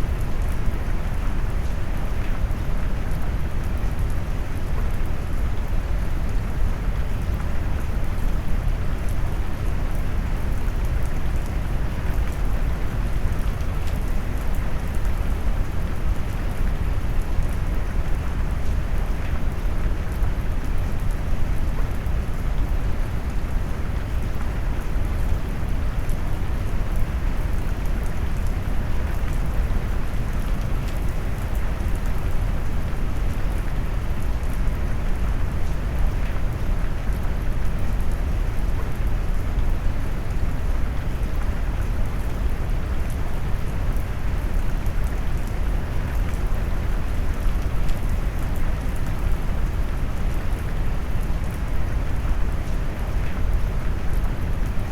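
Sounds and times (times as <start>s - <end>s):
rain drops pattering: 0.0s - 54.9s.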